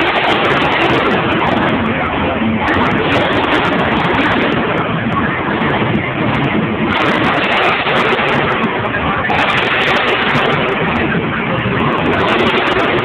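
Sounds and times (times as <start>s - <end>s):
monster truck engine running hard: 0.0s - 13.0s.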